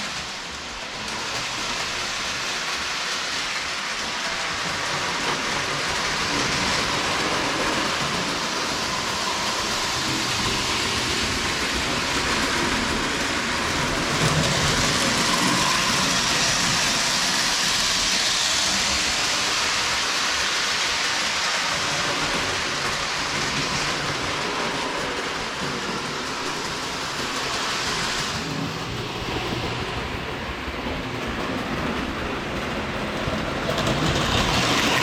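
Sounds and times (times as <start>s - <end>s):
toy train wheels rumbling: 0.0s - 35.0s.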